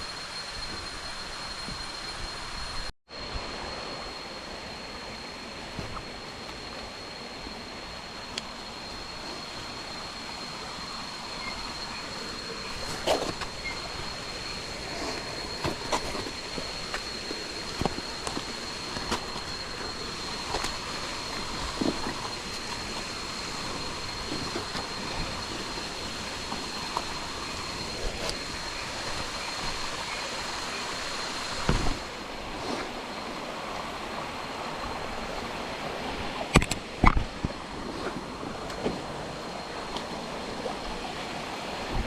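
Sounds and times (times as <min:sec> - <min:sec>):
thin high whine: 0:00.0 - 0:42.0
creek water rushing: 0:03.2 - 0:42.0.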